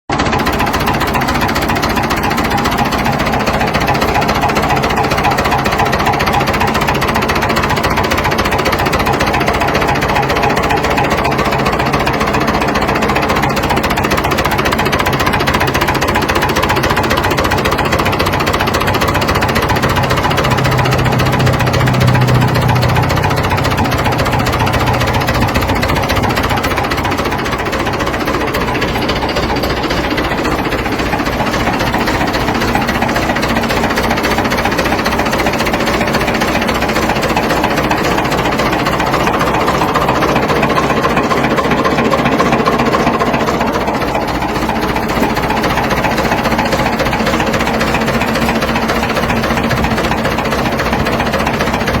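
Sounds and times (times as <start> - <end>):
tractor diesel engine running: 0.1 - 52.0.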